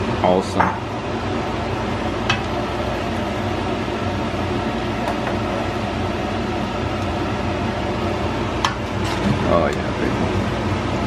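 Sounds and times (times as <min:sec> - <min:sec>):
fan whirring: 0:00.0 - 0:11.0.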